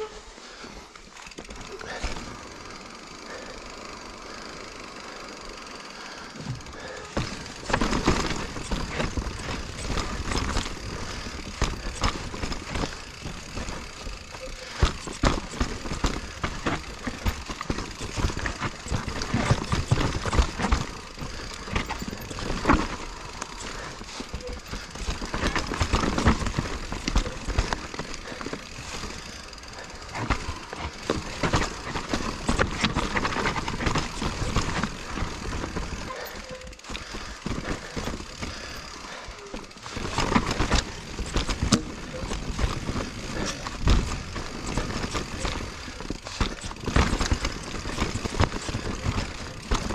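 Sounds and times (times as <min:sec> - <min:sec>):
bike knocking and rattling: 0:00.0 - 0:49.9
bike tyres on dirt trail: 0:00.0 - 0:49.9.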